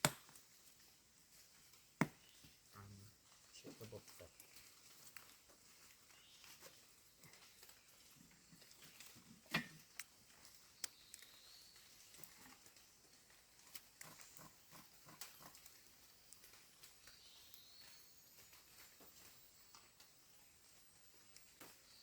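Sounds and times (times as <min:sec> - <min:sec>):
animal footsteps in leaf litter: 0:00.4 - 0:22.0.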